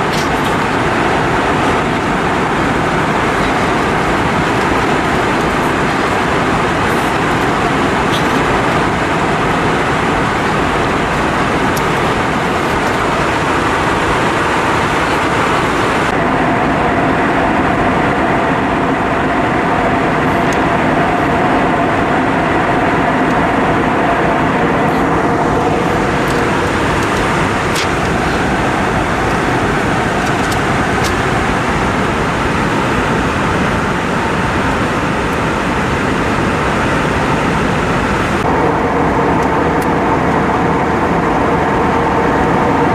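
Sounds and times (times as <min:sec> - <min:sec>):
jet engine cabin noise: 0:00.0 - 0:42.9.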